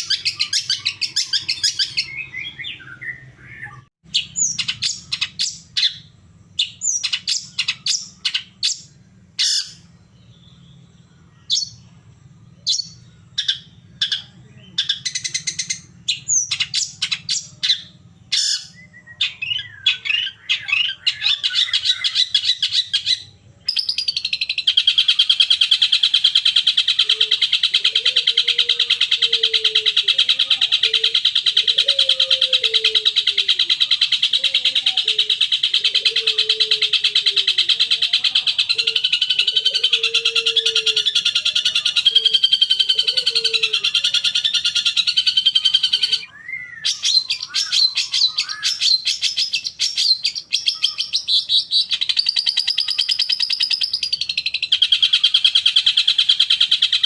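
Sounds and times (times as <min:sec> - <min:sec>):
fast high bird trill: 0:00.0 - 0:09.9, 0:12.6 - 0:57.0
bird chirps and calls: 0:00.0 - 0:57.0.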